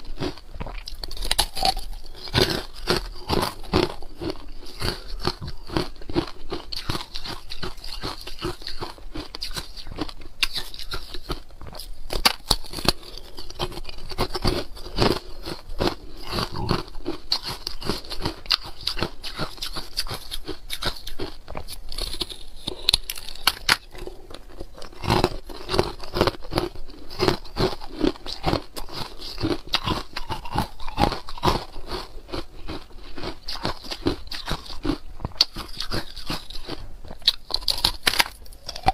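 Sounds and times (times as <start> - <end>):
ice cubes crunched between teeth: 0.2 - 38.9.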